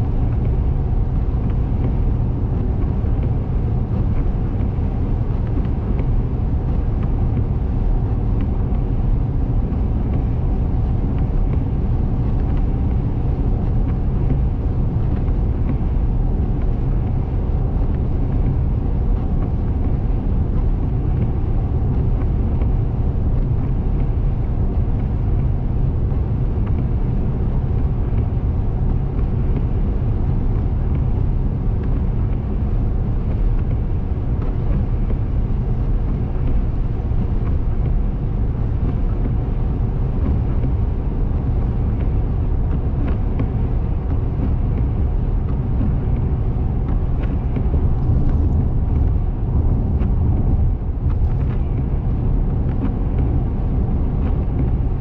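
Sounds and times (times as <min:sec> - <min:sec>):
car engine running: 0:00.1 - 0:55.0
tyres rumbling on road: 0:00.1 - 0:55.0.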